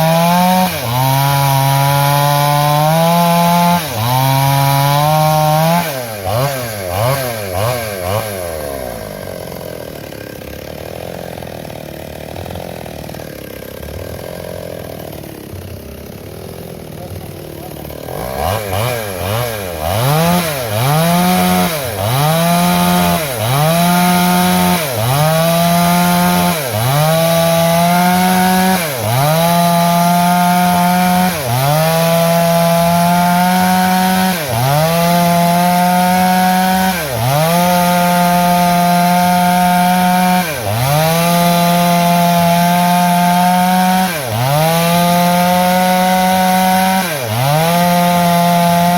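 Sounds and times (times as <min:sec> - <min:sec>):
chainsaw cutting a log: 0:00.0 - 0:48.9.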